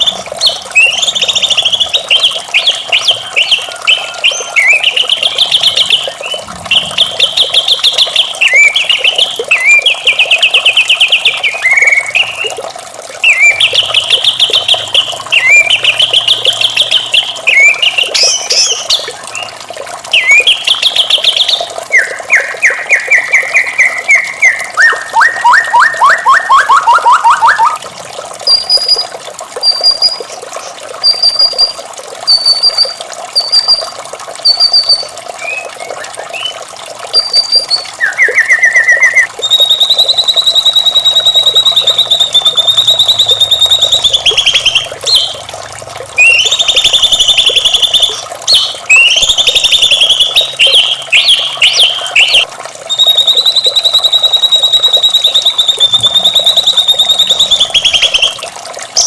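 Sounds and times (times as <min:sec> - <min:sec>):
bird singing trilled phrases: 0:00.0 - 0:12.6, 0:13.2 - 0:27.8, 0:28.4 - 0:45.5, 0:46.2 - 0:58.4
high whistled bird notes: 0:00.0 - 0:12.6, 0:13.2 - 0:19.5, 0:20.1 - 0:27.8, 0:28.4 - 0:30.3, 0:31.0 - 0:45.4, 0:46.2 - 0:58.4.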